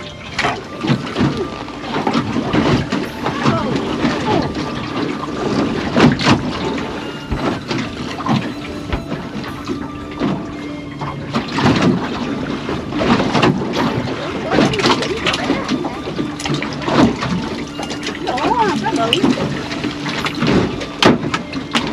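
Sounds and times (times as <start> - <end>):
water splashing against boat hull: 0.0 - 21.9.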